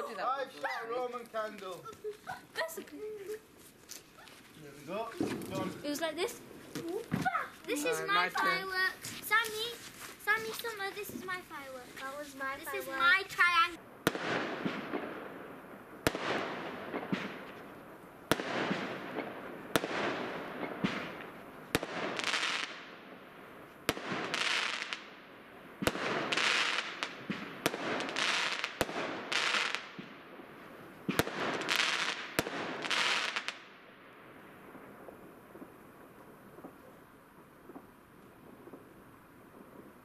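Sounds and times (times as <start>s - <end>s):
firework bangs: 4.9s - 40.0s.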